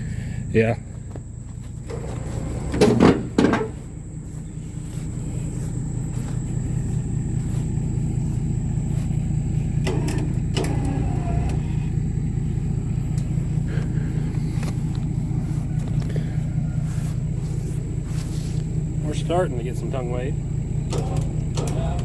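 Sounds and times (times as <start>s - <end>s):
backhoe engine running: 0.0s - 22.0s.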